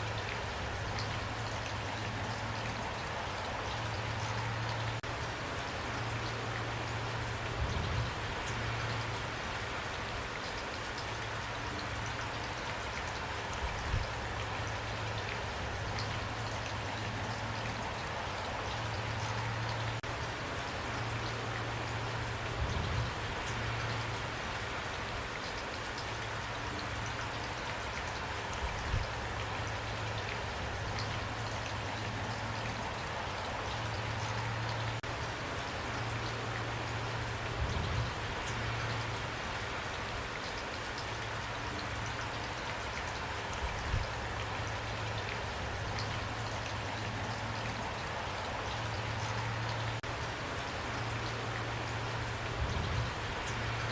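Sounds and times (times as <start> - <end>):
rain pattering: 0.0 - 53.9.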